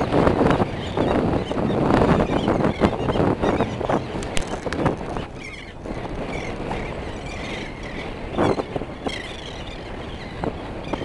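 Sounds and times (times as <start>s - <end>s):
wind buffeting microphone: 0.0s - 11.0s
seabirds calling faintly: 0.2s - 11.0s.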